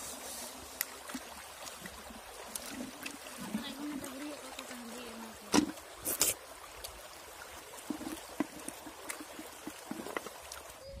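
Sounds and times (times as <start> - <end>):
stream trickling: 0.0 - 11.0
water sloshing and splashing: 0.0 - 11.0.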